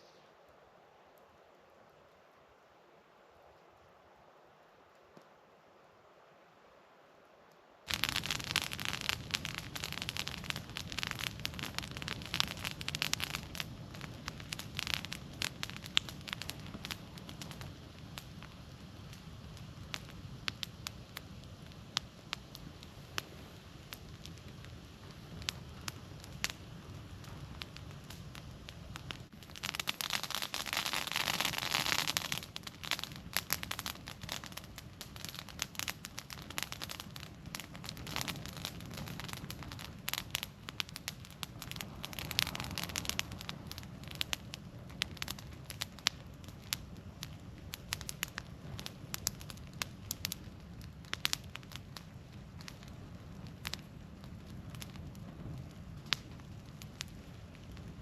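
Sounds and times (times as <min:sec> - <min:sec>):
campfire crackling and popping: 0:07.8 - 0:58.0
fire hissing: 0:07.9 - 0:58.0.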